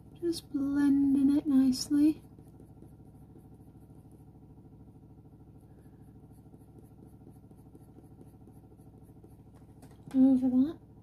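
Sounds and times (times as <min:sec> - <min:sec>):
faint low electrical hum: 0:00.0 - 0:11.0.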